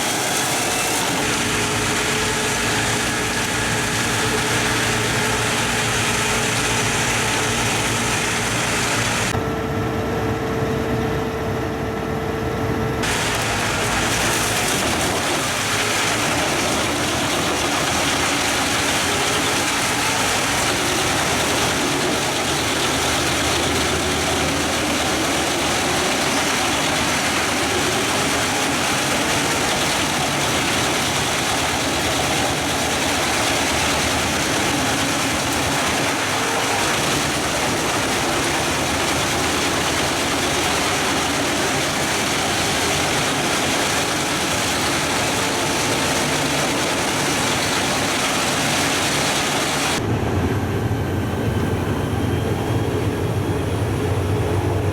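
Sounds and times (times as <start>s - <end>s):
wood chipper running: 0.0s - 54.9s.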